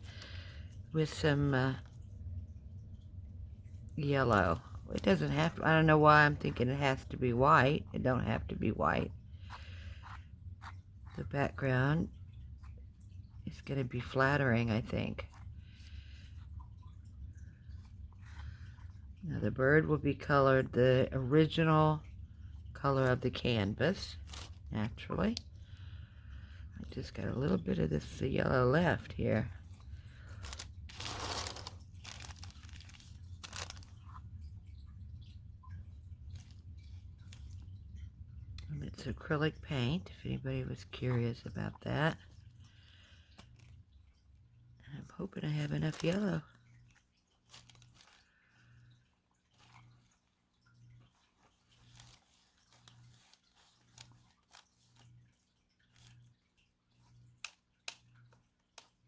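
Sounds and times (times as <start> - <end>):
paint tube crinkling and scraping: 0.0 - 20.7, 22.4 - 59.0
steady low hum: 0.0 - 57.4.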